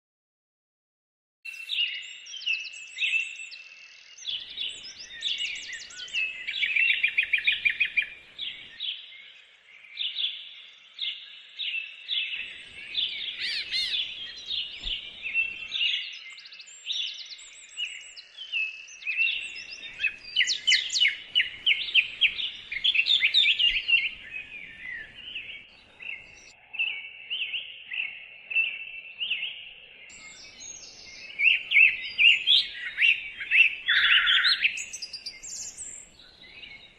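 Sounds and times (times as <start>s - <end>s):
birdsong chirps and trills: 1.5s - 36.9s.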